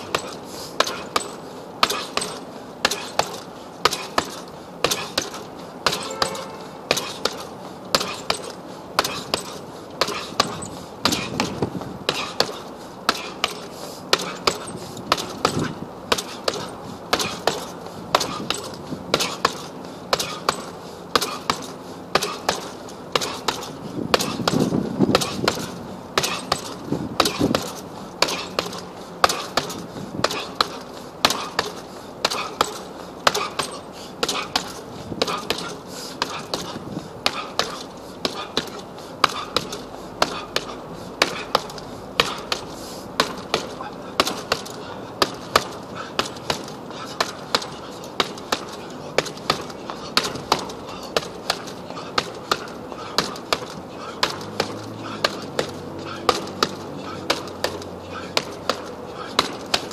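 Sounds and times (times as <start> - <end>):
fists punching heavy bag: 0.0 - 59.9.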